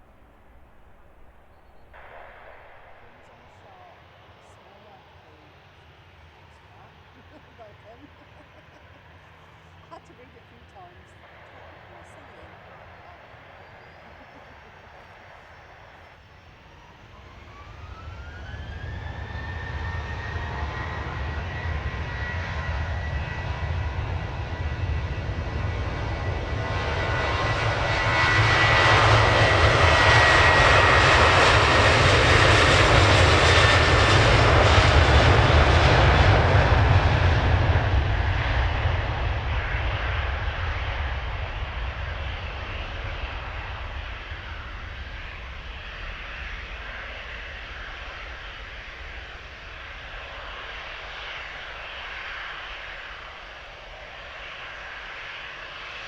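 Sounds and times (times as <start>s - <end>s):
jet airliner passing: 0.0s - 56.0s.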